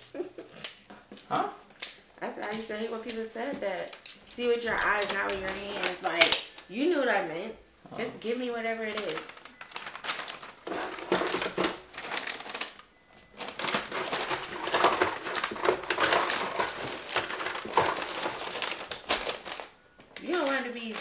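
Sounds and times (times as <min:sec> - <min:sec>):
wrapping paper crinkling: 0:01.7 - 0:06.8, 0:07.8 - 0:21.0.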